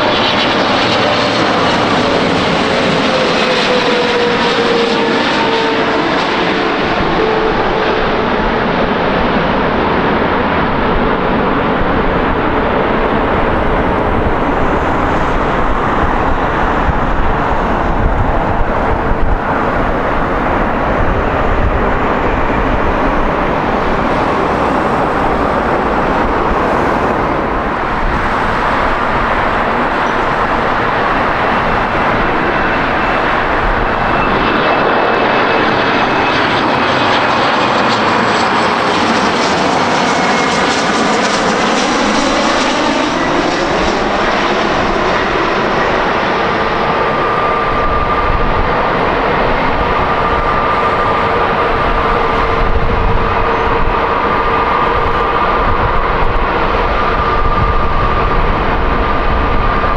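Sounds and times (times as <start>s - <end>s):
jet airliner passing: 0.0s - 59.9s
thin engine whine: 0.0s - 59.9s.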